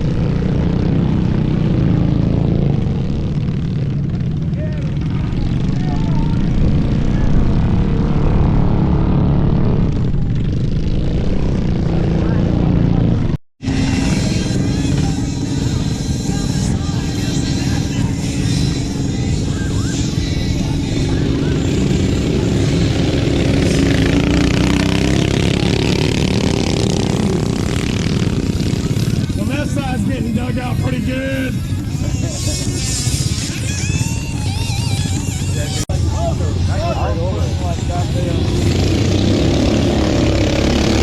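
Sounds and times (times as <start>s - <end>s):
small engine droning: 0.0s - 41.0s.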